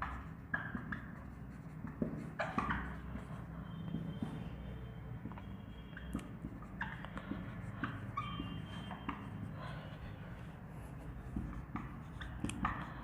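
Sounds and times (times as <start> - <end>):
marker squeaking on whiteboard: 0.0 - 13.0.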